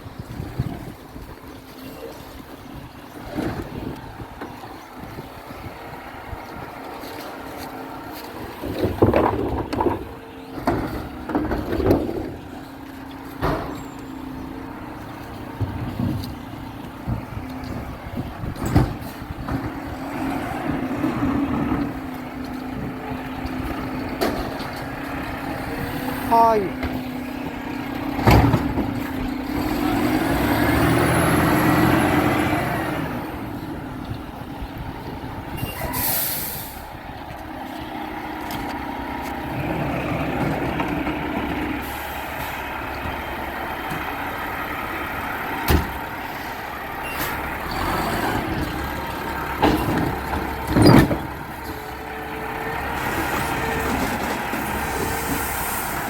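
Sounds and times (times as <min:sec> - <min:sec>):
garbage truck humming: 0:00.0 - 0:56.0.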